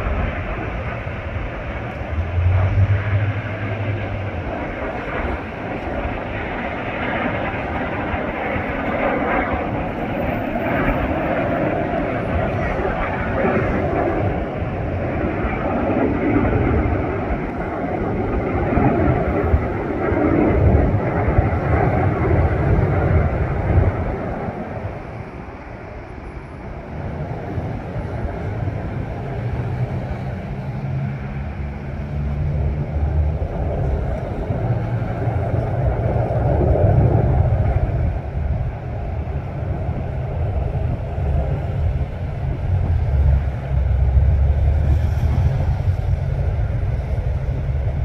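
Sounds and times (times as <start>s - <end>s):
low engine rumble: 0.0s - 48.0s.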